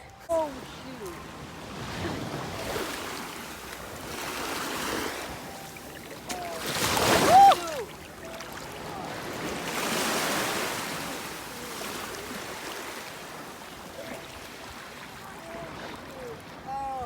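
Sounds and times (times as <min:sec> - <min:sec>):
ocean surf washing ashore: 0:00.3 - 0:17.0.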